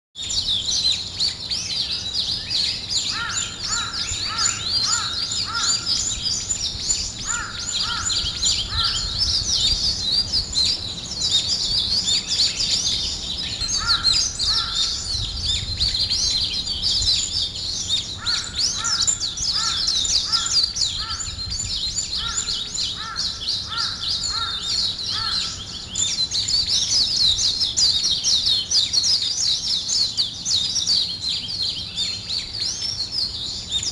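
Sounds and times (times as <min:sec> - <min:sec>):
lower bird call: 0:00.2 - 0:28.9
small birds chirping: 0:00.2 - 0:33.9.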